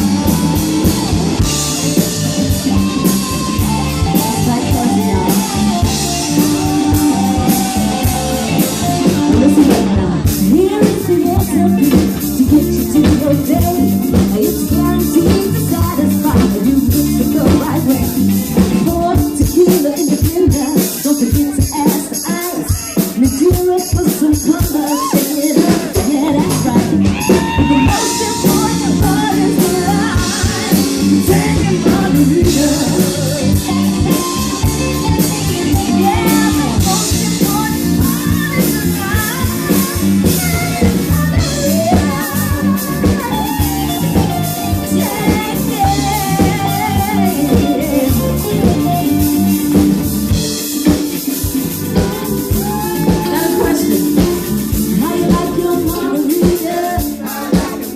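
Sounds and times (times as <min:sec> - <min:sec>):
live band music: 0:00.0 - 0:57.9.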